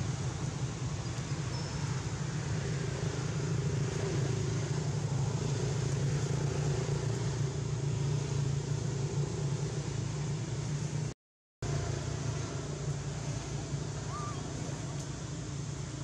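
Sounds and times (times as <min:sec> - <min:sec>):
constant hiss: 0:00.0 - 0:16.0
low mechanical rumble: 0:00.0 - 0:16.0.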